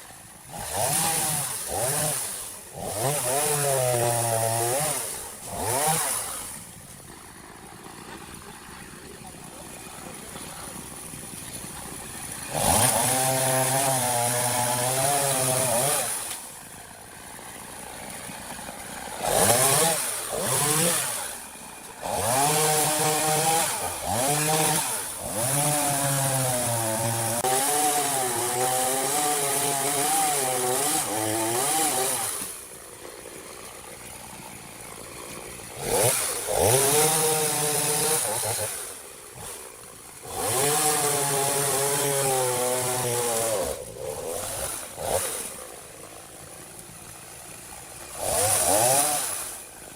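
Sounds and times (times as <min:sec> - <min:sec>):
chainsaw cutting wood: 0:00.0 - 0:49.9
chainsaw idling: 0:00.0 - 0:49.9.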